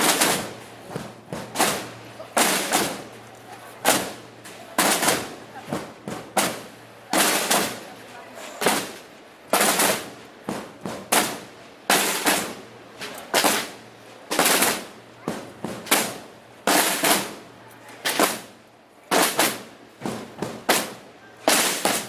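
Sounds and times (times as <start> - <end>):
marching snare drums: 0.0 - 8.0, 8.6 - 22.0.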